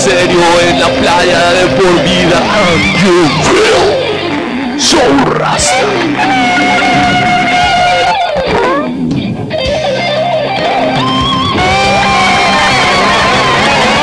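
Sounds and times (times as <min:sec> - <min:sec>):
electric guitar lead: 0:00.0 - 0:14.0.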